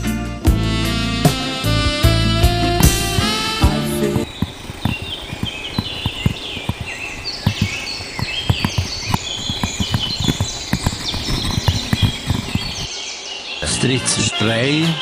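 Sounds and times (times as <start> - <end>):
birds chirping: 2.5 - 14.8.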